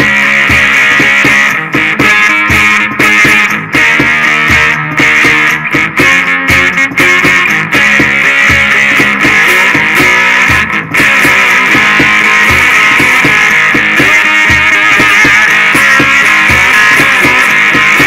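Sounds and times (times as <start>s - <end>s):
electric guitar blues-rock riff: 0.0s - 18.0s.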